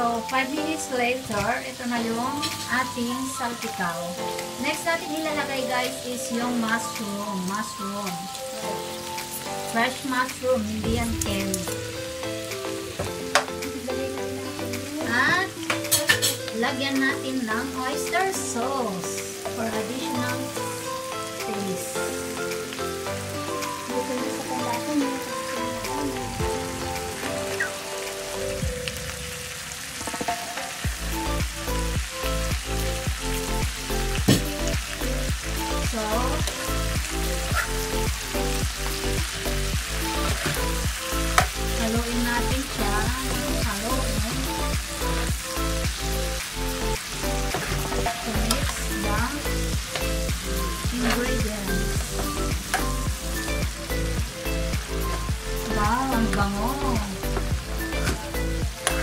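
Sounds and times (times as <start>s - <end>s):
vegetables sizzling in a wok: 0.0s - 59.0s
background music with heavy bass: 8.2s - 29.4s, 30.0s - 59.0s.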